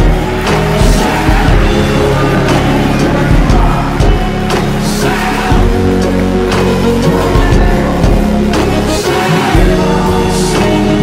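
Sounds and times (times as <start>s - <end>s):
loud music with steady beat: 0.0s - 11.0s.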